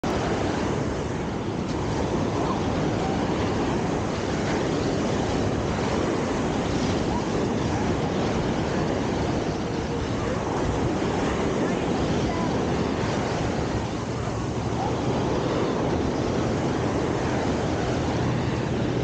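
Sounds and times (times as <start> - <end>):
ocean waves breaking on sand: 0.0 - 19.0.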